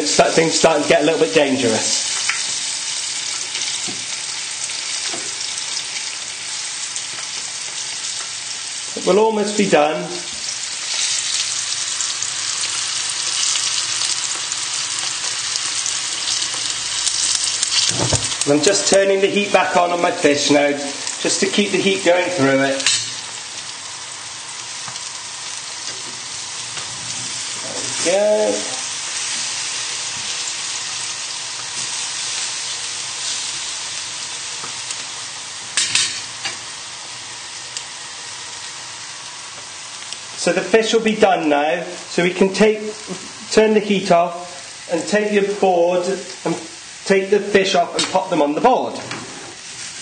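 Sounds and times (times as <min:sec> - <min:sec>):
fish sizzling in hot oil: 0:00.0 - 0:50.0.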